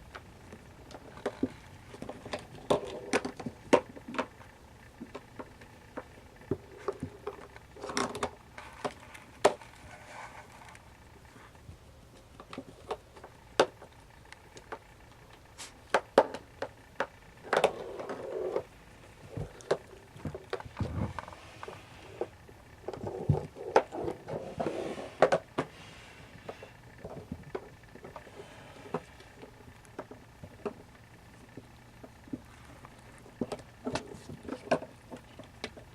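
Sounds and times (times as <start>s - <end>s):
kittens scuffling: 0.3s - 35.9s.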